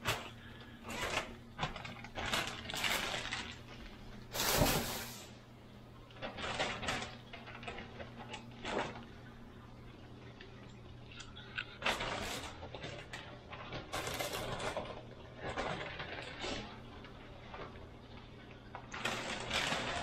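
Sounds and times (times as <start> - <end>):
plastic bag rustling and crinkling: 0.0 - 5.4, 6.1 - 9.4, 11.3 - 20.0
low steady hum: 0.0 - 20.0.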